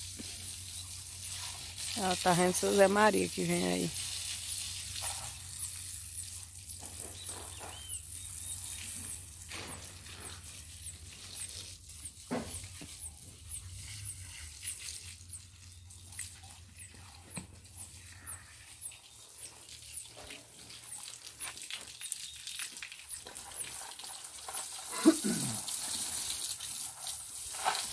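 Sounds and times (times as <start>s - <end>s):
hose water splashing and dripping: 0.0s - 27.9s.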